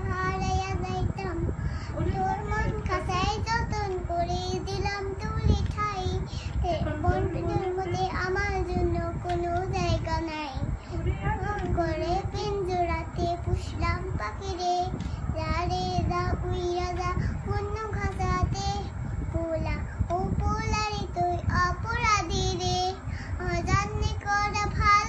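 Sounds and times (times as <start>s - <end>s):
young girl singing: 0.0s - 25.0s.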